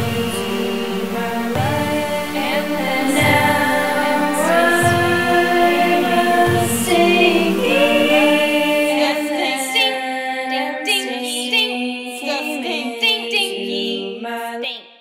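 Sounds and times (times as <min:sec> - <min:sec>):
voices singing in harmony: 0:00.0 - 0:14.8.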